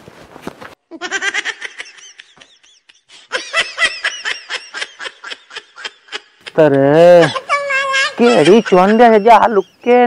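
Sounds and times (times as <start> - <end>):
high-pitched snickering laughter: 0.9 - 9.9.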